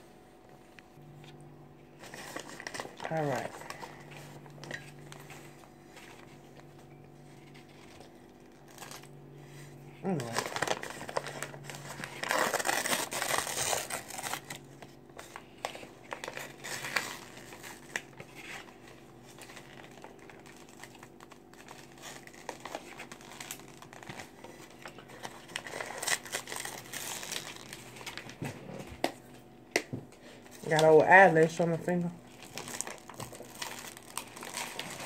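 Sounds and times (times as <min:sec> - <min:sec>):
paper bag crinkling: 0:02.0 - 0:28.9, 0:30.5 - 0:35.0.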